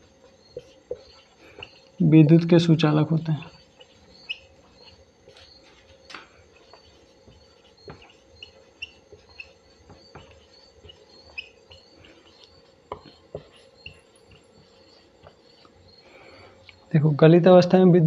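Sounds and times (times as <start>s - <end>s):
marker writing on whiteboard: 0.0s - 2.1s, 3.3s - 17.0s.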